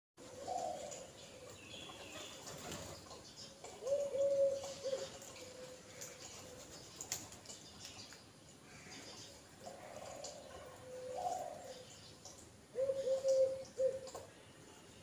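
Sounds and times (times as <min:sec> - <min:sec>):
birds cooing: 0:00.2 - 0:08.0, 0:08.6 - 0:14.6
beaks pecking on concrete: 0:00.5 - 0:14.4.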